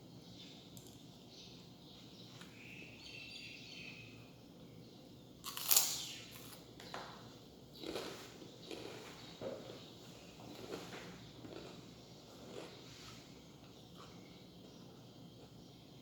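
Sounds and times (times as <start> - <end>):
birds chirping: 0.0 - 5.3, 6.2 - 16.0.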